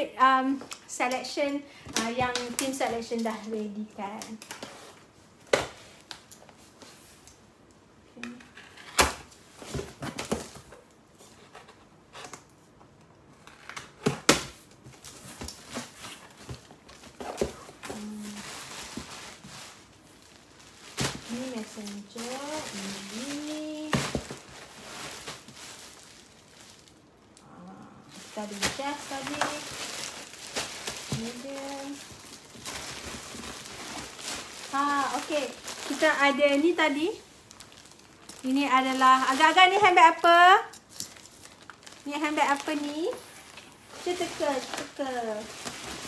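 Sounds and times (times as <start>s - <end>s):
plastic wrapping crinkling: 0.2s - 7.4s, 13.3s - 27.5s, 28.1s - 46.0s.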